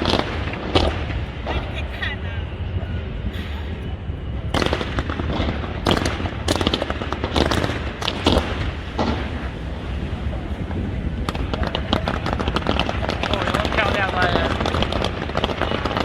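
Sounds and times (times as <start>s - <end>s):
fireworks bangs and crackles: 0.0s - 16.0s
low rumble: 0.0s - 16.0s.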